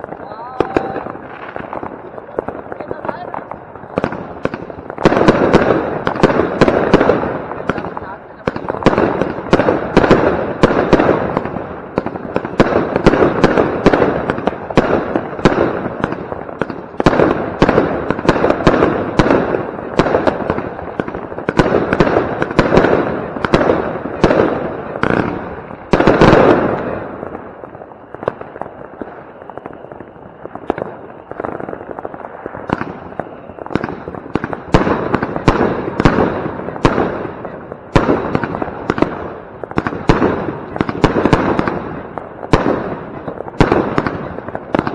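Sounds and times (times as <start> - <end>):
firework battery firing: 0.0 - 44.9.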